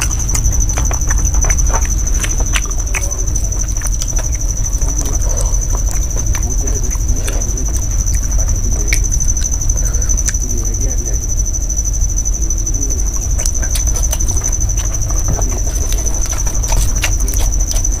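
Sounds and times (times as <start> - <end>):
person eating with fingers: 0.0 - 11.4, 12.4 - 18.0
high-pitched whine: 0.0 - 18.0
steady low hum: 0.0 - 18.0.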